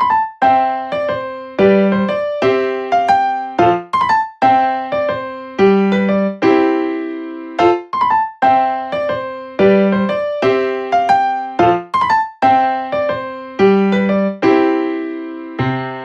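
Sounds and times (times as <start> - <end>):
bouncy keyboard melody: 0.0 - 16.0.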